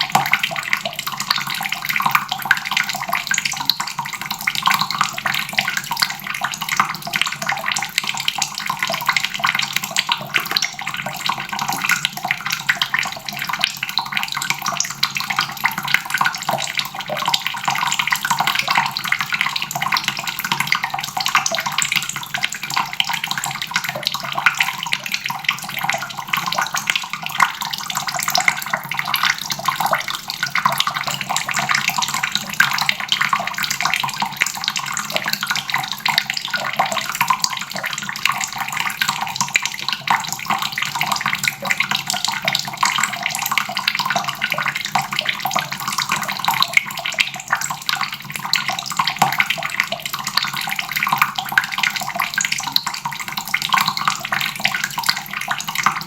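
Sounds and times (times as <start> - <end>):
water running from a faucet: 0.0 - 56.0.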